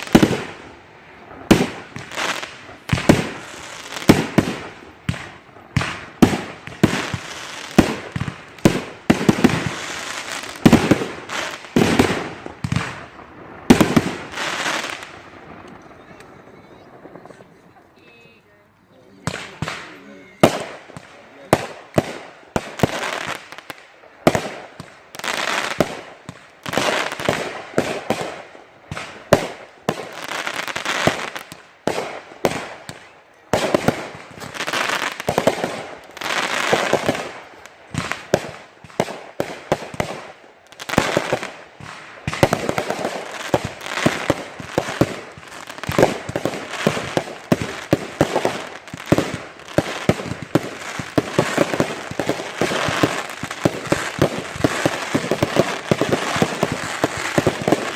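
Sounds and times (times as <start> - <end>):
fireworks banging and crackling: 0.0 - 57.9.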